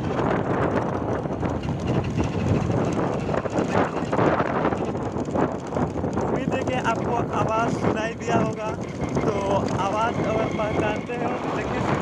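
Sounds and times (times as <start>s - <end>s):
grinding gearbox noise: 0.0s - 12.0s
scooter engine at speed: 0.0s - 12.0s.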